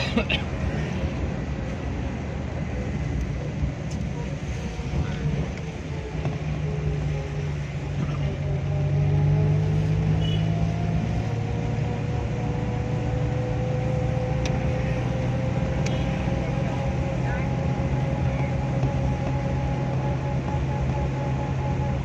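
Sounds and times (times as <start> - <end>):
tyres on wet road: 0.0 - 22.0
vehicle engine running: 0.0 - 22.0.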